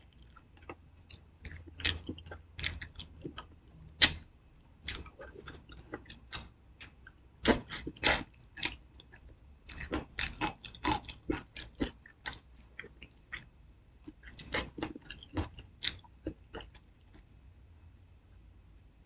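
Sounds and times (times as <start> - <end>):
person chewing fried chicken: 0.0 - 17.3.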